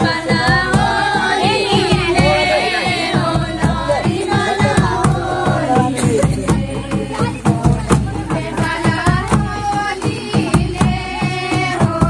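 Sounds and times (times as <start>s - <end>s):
drum beats: 0.0s - 12.0s
voices singing folk song: 0.0s - 12.0s.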